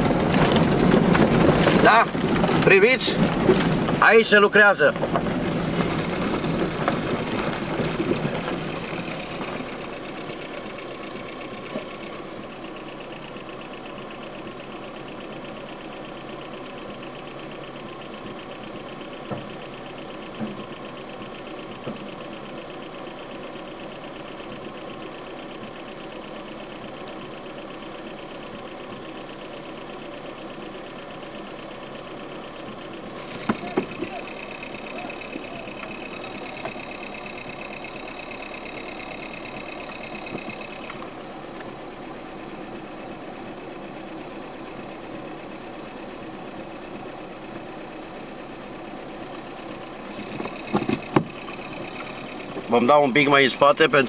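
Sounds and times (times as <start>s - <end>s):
car engine idling: 0.0s - 54.0s
car rolling on gravel: 0.0s - 54.0s.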